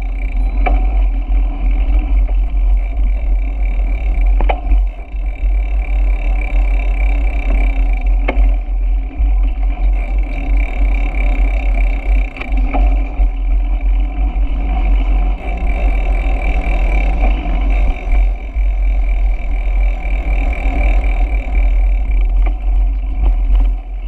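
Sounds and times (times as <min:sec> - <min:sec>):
road and bike noise: 0:00.0 - 0:24.0.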